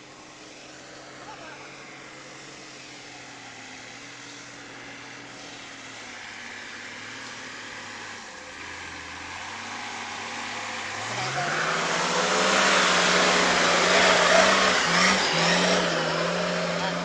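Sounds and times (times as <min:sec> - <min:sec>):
vehicle engine running: 0:00.0 - 0:17.0
wash of noise: 0:00.0 - 0:17.0.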